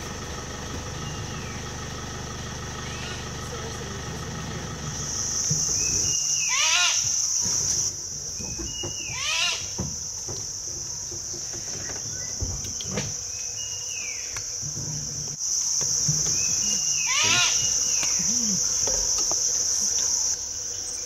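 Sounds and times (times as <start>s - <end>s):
forest insects droning: 0.0s - 21.0s.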